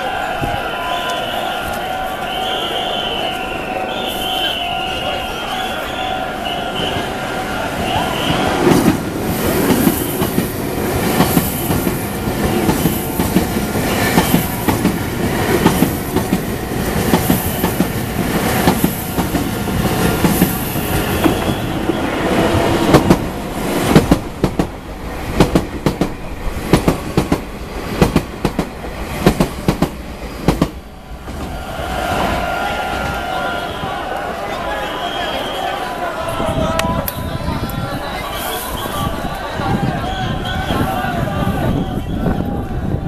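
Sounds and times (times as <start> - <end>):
electric train running past: 0.0 - 43.0.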